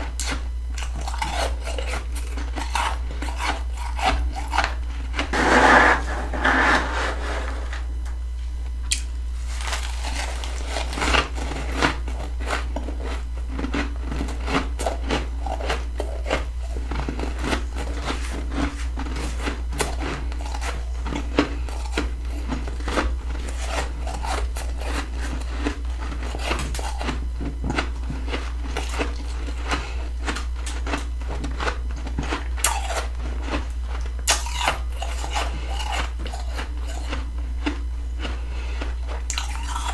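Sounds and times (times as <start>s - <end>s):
chewing crisp frost: 0.2s - 5.3s, 8.9s - 39.9s.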